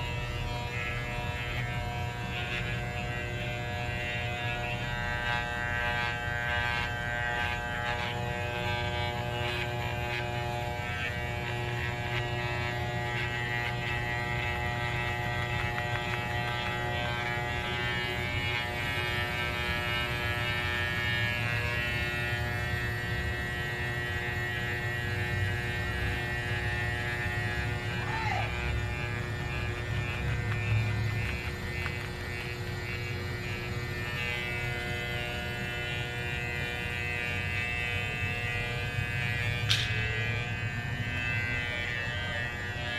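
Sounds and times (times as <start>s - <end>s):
electric clippers buzzing: 0.0s - 42.9s.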